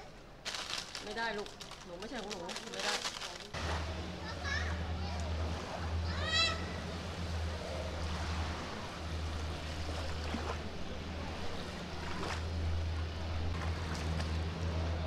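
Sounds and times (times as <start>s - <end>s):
low engine hum: 0.0s - 15.0s
surf washing: 0.6s - 15.0s.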